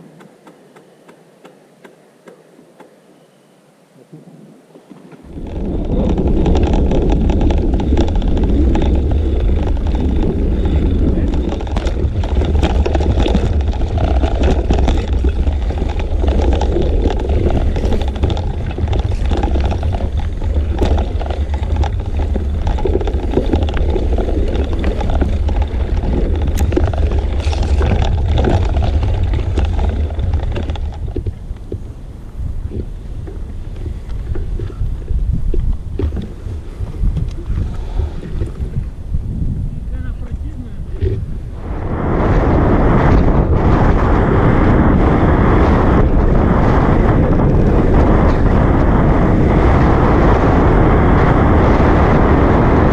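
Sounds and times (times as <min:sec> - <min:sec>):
wind buffeting microphone: 0:04.0 - 0:52.9.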